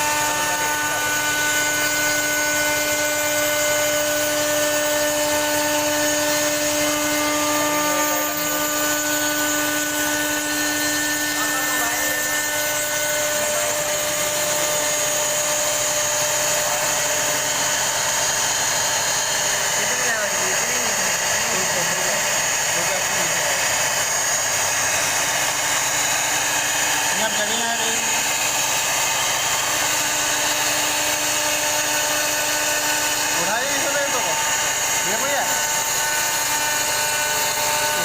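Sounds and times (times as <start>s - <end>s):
router spindle whine: 0.0s - 38.0s.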